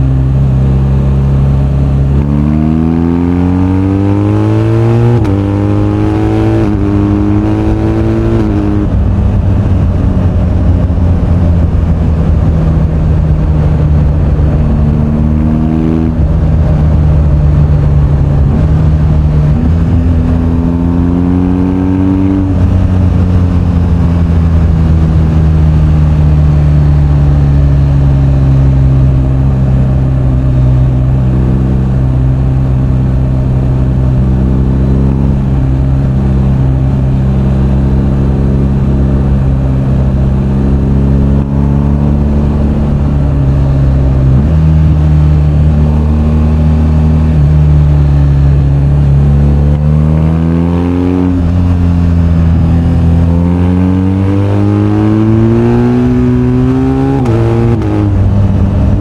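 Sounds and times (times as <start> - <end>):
motorcycle engine accelerating through gears: 0.0 - 59.0.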